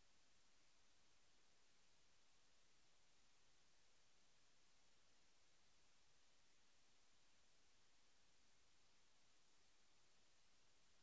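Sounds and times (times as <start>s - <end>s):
faint recording hiss: 0.0s - 11.0s.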